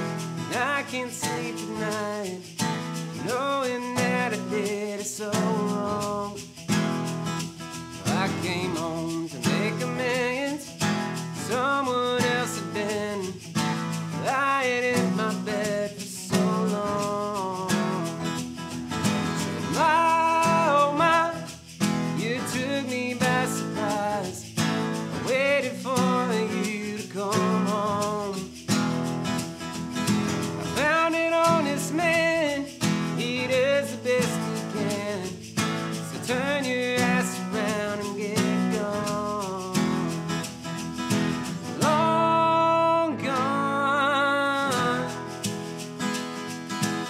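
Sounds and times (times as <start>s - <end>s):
acoustic guitars strumming: 0.0s - 47.0s.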